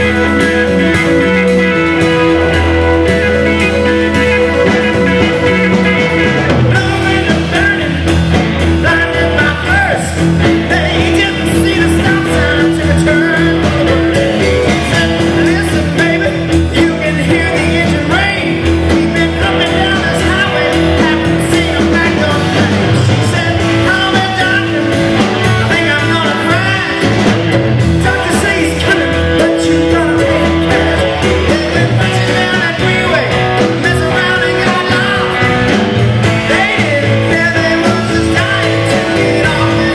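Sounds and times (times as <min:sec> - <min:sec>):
drum kit: 0:00.0 - 0:39.9
electric bass: 0:00.0 - 0:39.9
electric guitar: 0:00.0 - 0:39.9
keyboards: 0:00.0 - 0:39.9
man singing: 0:00.0 - 0:39.9.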